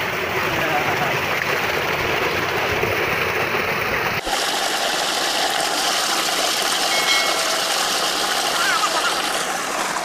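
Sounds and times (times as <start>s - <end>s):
water gushing into tank: 0.0s - 10.0s.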